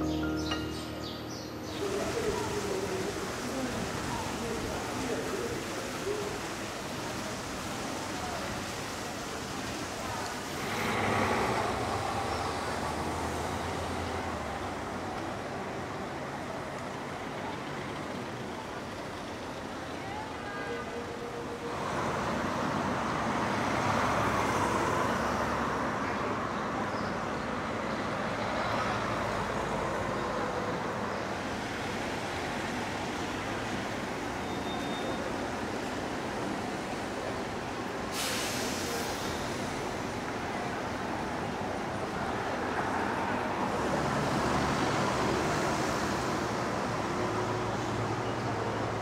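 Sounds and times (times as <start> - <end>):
passing vehicles: 0.0 - 34.6, 35.2 - 49.0.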